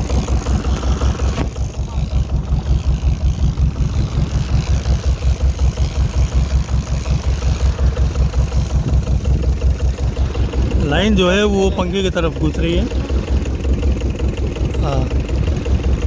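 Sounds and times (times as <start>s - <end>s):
boat engine throbbing: 0.0s - 16.0s.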